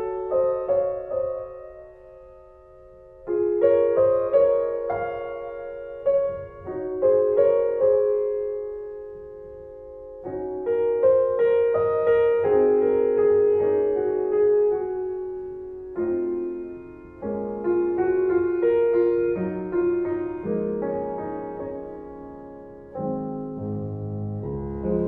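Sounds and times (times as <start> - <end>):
slow gentle solo piano: 0.0 - 25.0.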